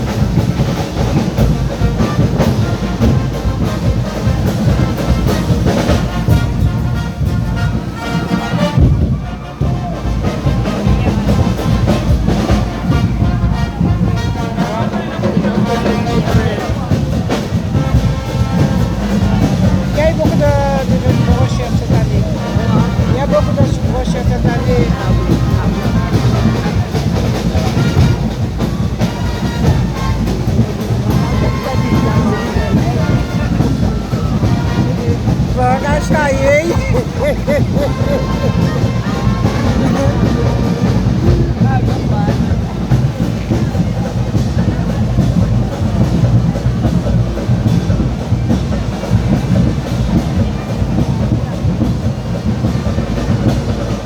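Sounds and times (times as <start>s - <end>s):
drums and percussion beating: 0.0s - 54.0s
voices or horns: 0.0s - 54.0s.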